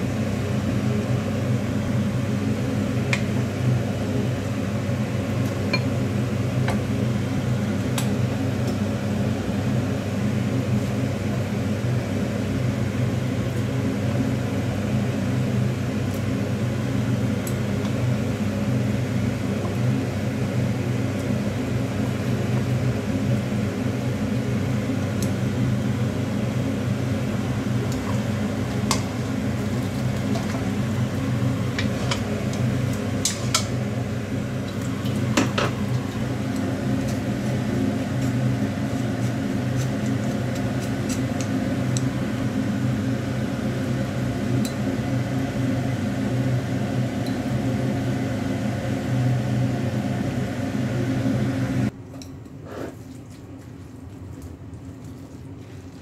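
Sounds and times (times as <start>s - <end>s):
kitchen fan humming: 0.0s - 56.0s.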